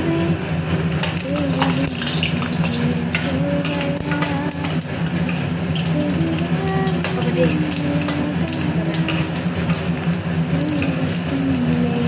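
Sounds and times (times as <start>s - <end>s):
exhaust fan hum: 0.0s - 12.0s
dough sizzling in hot oil: 1.0s - 12.0s
ladle clicking against pan: 1.0s - 12.0s.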